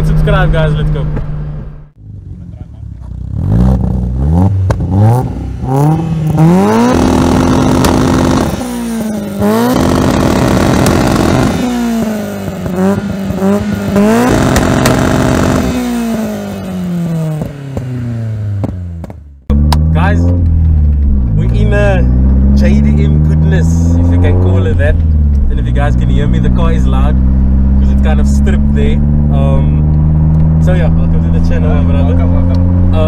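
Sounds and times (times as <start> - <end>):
car engine revving hard: 2.0 - 33.0.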